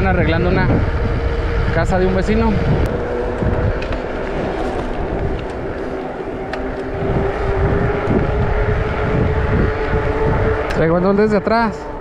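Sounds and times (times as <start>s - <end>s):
low rumble: 0.0s - 12.0s
steady high-pitched hum: 0.0s - 12.0s
wind buffeting microphone: 0.0s - 12.0s.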